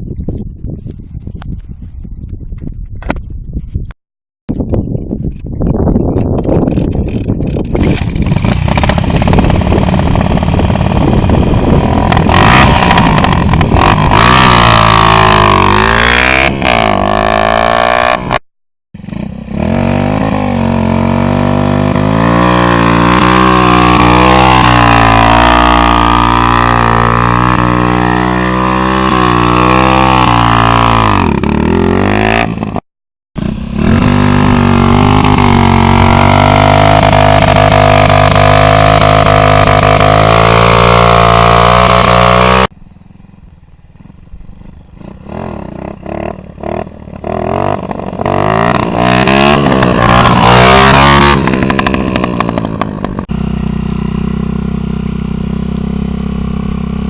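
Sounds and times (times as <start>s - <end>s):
moped engine revving: 6.4s - 18.4s, 19.0s - 32.8s, 33.4s - 57.0s.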